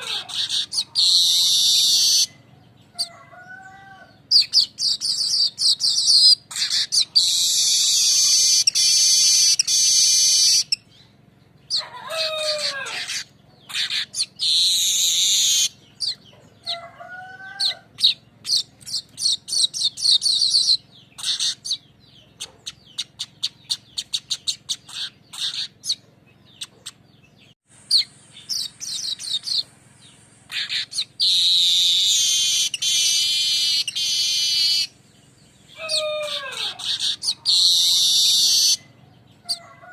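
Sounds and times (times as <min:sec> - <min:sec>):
weaver bird singing: 0:00.0 - 0:39.9.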